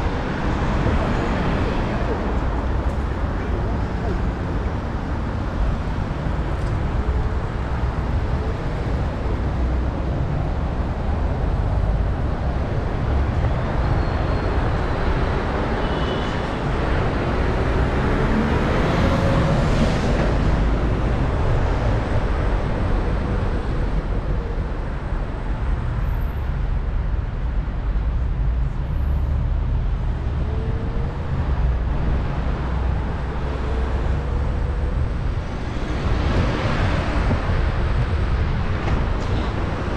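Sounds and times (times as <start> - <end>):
passing traffic: 0.0 - 39.9
road noise: 0.0 - 39.9
wind rumble: 0.0 - 39.9.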